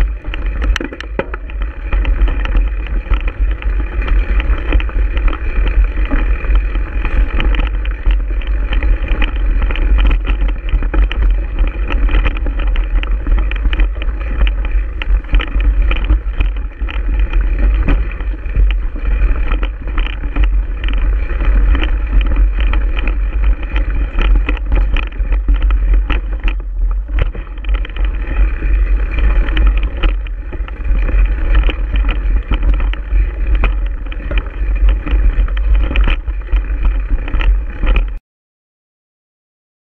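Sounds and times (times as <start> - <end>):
bike rattles and knocks: 0.0 - 38.2
wind rumble on microphone: 0.0 - 38.2.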